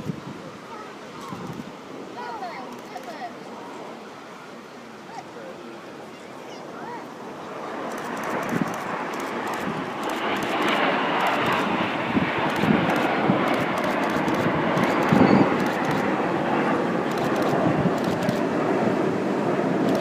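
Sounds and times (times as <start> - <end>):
jet engines roaring past: 0.0 - 20.0.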